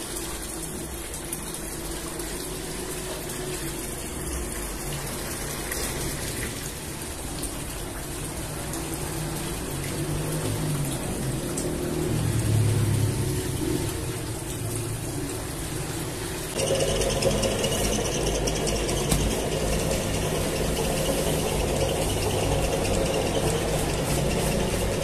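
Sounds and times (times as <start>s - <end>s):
water pouring into metal bowl: 0.0s - 25.0s.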